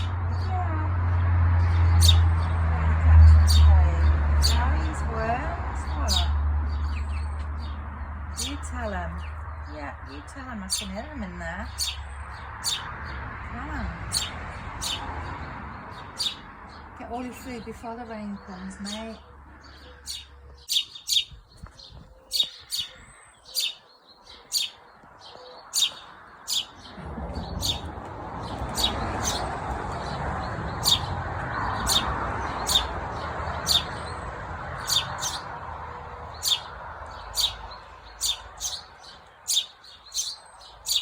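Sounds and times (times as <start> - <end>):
sparrow chirping: 0.0 - 41.0.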